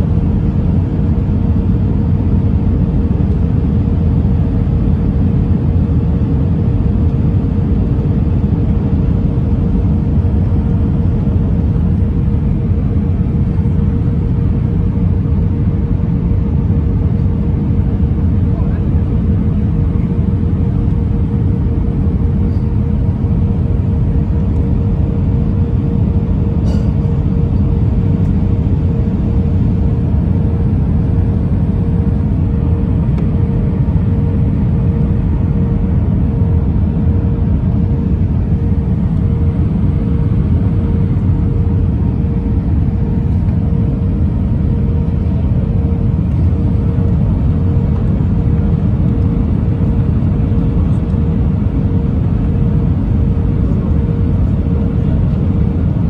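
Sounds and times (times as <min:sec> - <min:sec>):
aircraft engines and airflow rumble: 0:00.0 - 0:56.0
steady hum tone: 0:00.0 - 0:56.0.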